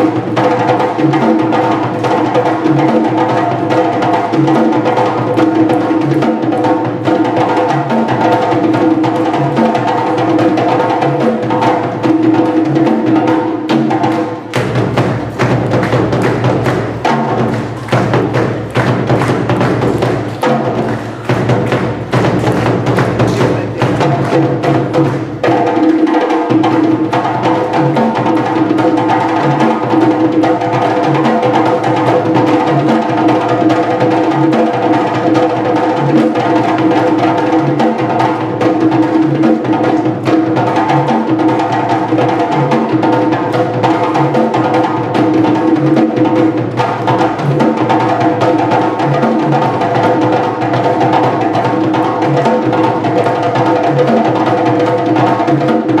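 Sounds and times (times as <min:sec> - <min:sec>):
drum ensemble playing: 0:00.0 - 0:56.0.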